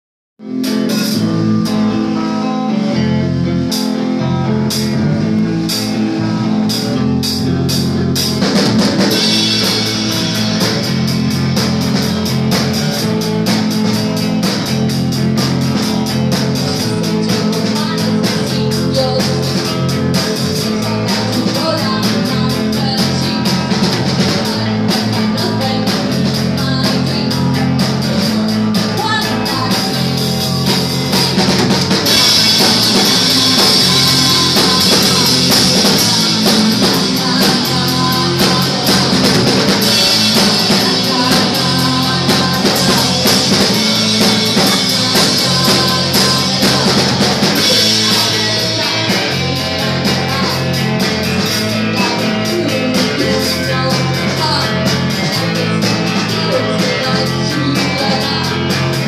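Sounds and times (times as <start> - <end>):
rock music with guitar and drums: 0.4 - 59.0.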